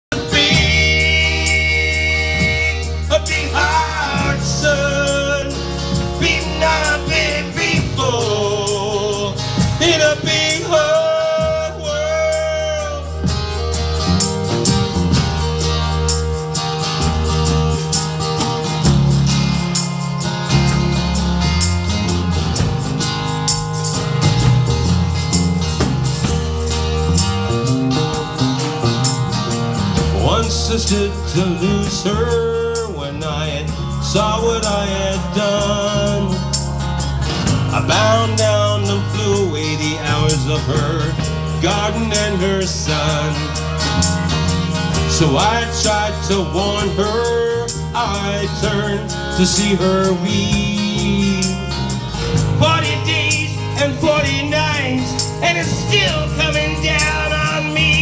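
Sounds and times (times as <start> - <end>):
live rock band playing: 0.0 - 58.0
tambourine shaking: 0.1 - 58.0.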